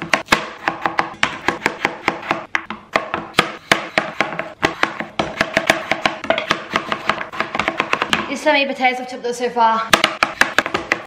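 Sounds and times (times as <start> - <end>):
knife chopping on cutting board: 0.0 - 8.3, 9.9 - 11.0.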